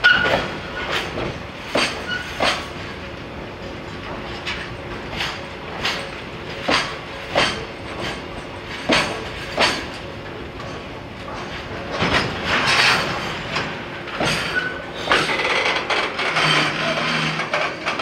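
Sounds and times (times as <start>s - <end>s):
freight train rolling noise: 0.0s - 18.0s
train wheels clacking over rail joints: 0.0s - 18.0s.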